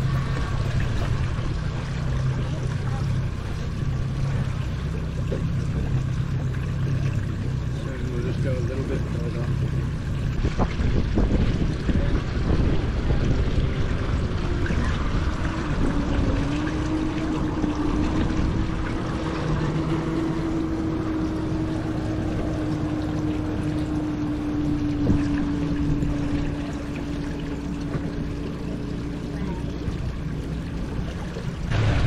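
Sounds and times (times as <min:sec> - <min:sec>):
boat motor humming: 0:00.0 - 0:32.0.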